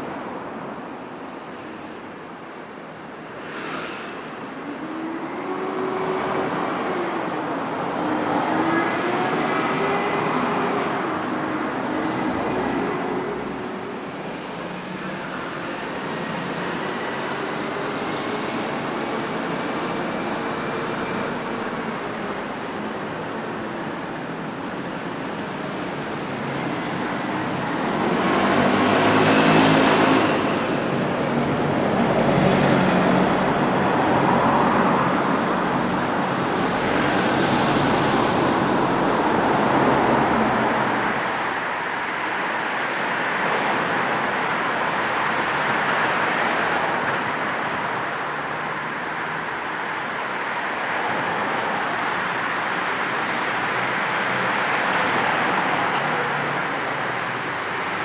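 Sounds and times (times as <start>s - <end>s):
traffic tyre and engine noise: 0.0s - 58.0s
cars passing close by: 2.0s - 58.0s.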